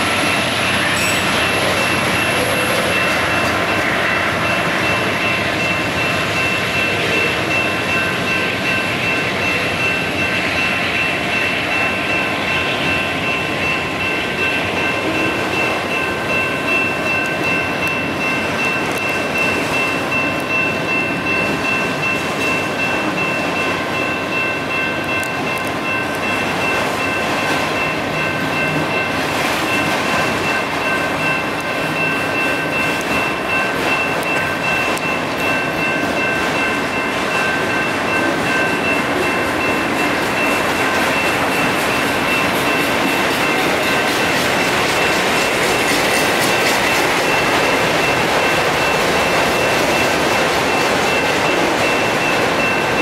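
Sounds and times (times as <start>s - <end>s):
crossing bells ringing: 0.0s - 53.0s
freight train wheels on rails: 0.0s - 53.0s.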